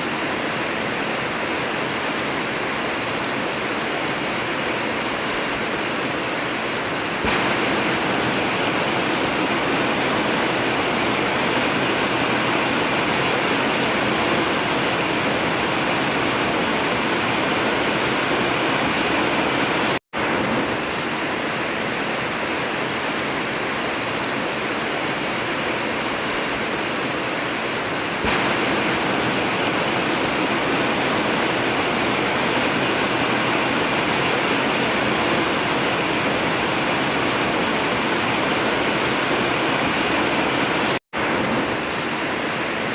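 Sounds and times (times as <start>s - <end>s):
heavy rain on a tin roof: 0.0s - 42.9s.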